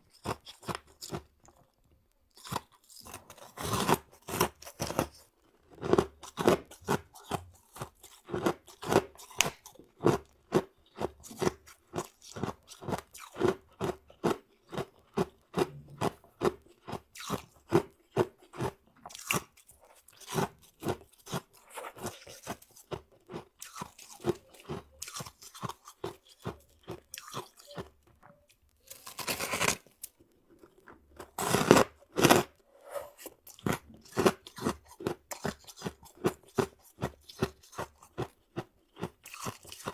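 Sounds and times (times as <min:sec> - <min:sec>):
chewing ice crunches: 0:00.1 - 0:32.6, 0:33.2 - 0:39.9.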